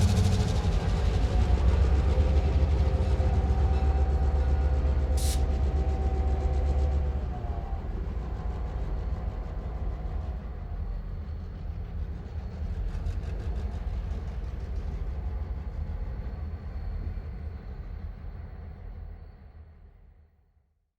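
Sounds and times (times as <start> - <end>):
low rumble of trains: 0.0 - 20.5.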